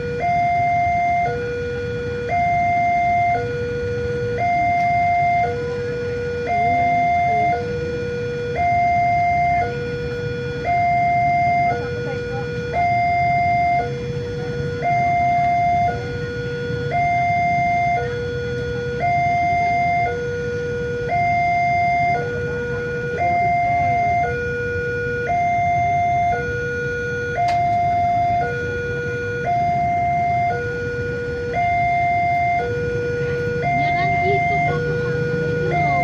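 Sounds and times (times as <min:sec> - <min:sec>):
level crossing two-tone alarm: 0:00.0 - 0:36.0.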